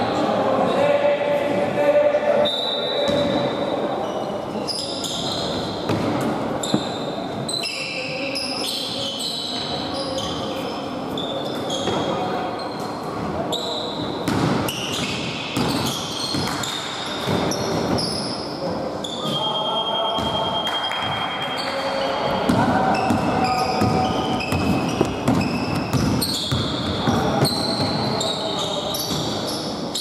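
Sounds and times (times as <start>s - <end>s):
sneakers squeaking: 2.4s - 30.0s.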